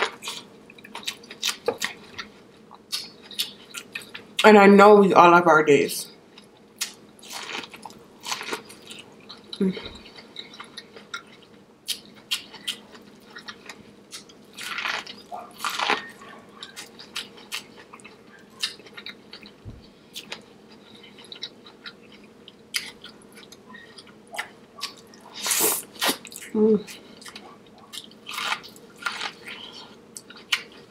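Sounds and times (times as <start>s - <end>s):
person chewing with wet mouth sounds: 0.0s - 4.4s, 6.4s - 30.9s.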